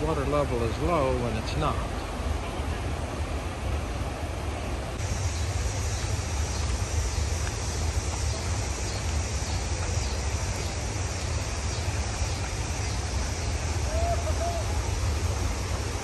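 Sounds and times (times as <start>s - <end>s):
water rushing over rapids: 0.0s - 16.0s.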